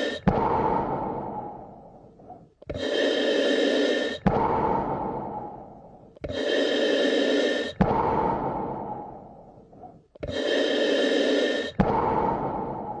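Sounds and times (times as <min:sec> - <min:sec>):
deep human breathing: 0:00.0 - 0:13.0.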